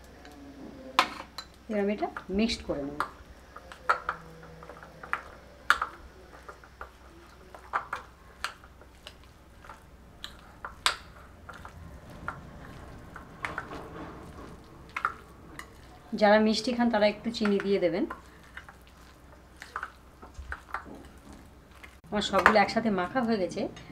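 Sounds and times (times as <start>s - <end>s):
mixture worked by hand: 0.0s - 23.4s
spoon stirring wet mixture: 0.0s - 23.9s.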